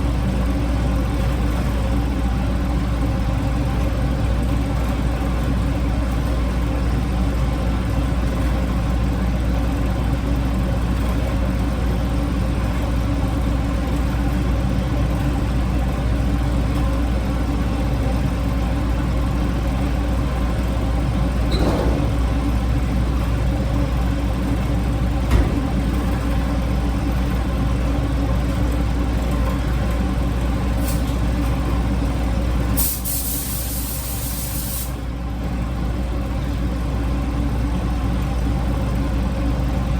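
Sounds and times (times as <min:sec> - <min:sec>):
low machine hum: 0:00.0 - 0:32.8.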